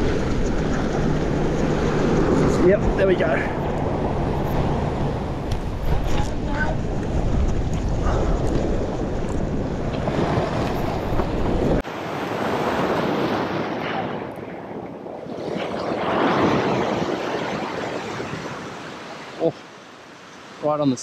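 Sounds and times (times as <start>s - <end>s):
wind rumbling on microphone: 0.0s - 19.4s
ocean waves washing over rocks: 0.0s - 21.0s.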